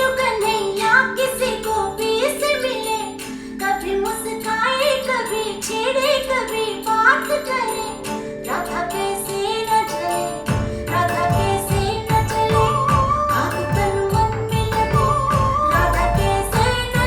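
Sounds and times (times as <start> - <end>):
song over loudspeakers: 0.0 - 17.0.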